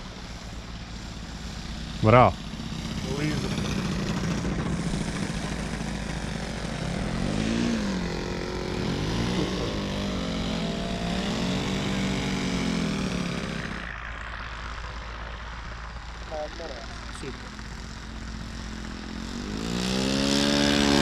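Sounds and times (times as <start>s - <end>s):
model airplane engine: 0.0s - 21.0s.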